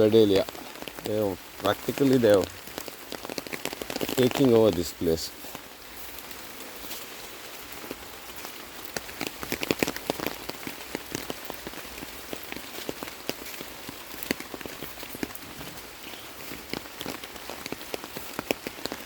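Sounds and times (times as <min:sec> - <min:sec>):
raindrops pattering: 0:00.0 - 0:19.0.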